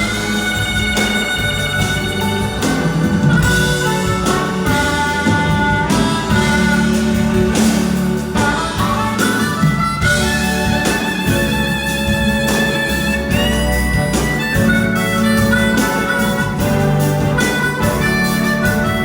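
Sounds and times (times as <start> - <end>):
instrumental melody over bass: 0.0 - 19.0.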